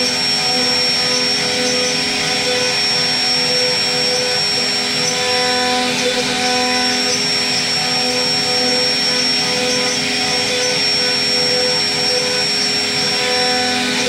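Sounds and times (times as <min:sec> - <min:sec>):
router bit cutting wood: 0:00.0 - 0:14.0
router spindle whine: 0:00.0 - 0:14.0.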